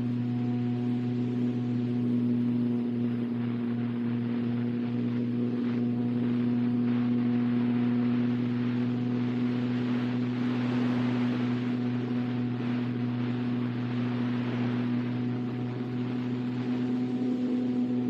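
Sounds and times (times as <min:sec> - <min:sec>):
electric motor whine: 0:00.0 - 0:18.0
rushing air: 0:00.0 - 0:18.0.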